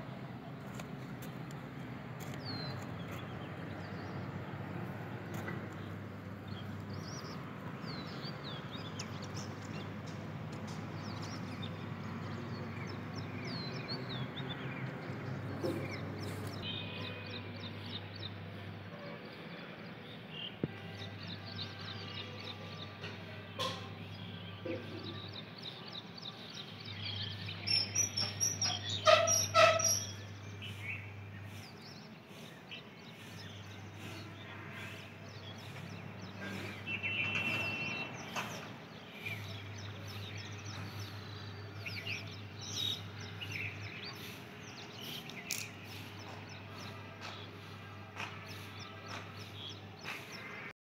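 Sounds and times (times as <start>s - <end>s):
birds chirping and twittering: 0.7s - 19.4s, 20.0s - 50.7s.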